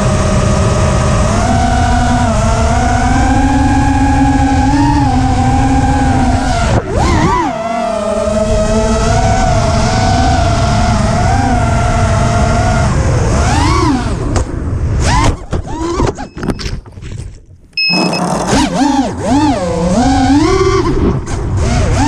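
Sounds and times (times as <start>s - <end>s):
quadcopter motors whining: 0.0s - 16.7s, 17.8s - 22.0s.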